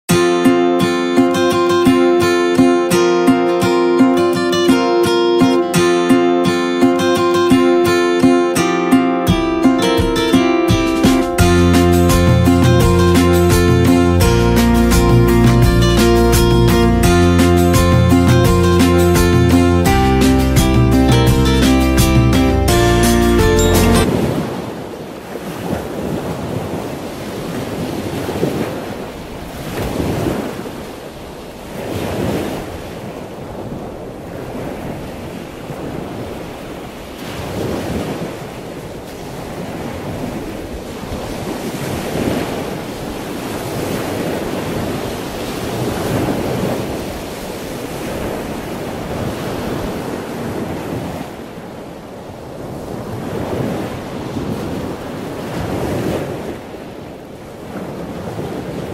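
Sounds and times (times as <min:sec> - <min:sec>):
ocean surf breaking on beach: 0:00.1 - 0:58.9.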